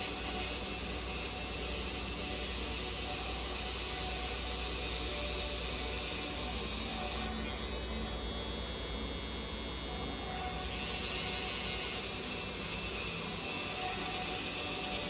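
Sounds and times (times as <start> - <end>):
tattoo machine running: 0.0 - 15.0.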